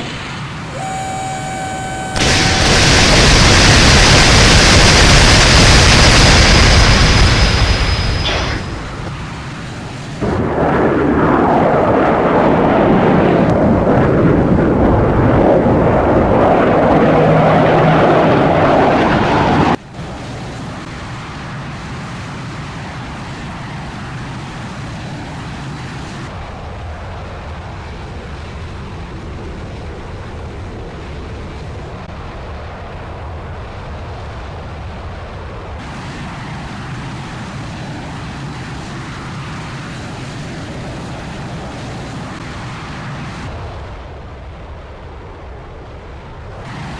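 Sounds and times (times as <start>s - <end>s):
jet engine roar: 0.0s - 46.9s
steady rushing noise: 0.0s - 46.9s.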